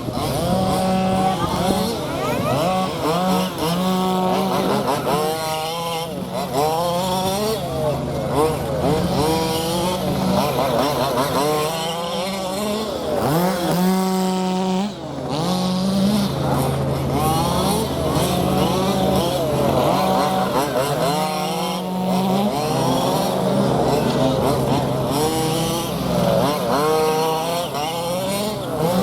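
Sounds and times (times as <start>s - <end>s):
model car motors whining: 0.0s - 29.0s.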